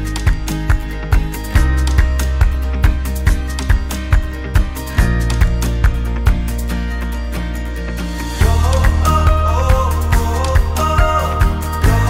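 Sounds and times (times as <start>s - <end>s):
upbeat music with steady beat: 0.0s - 12.0s.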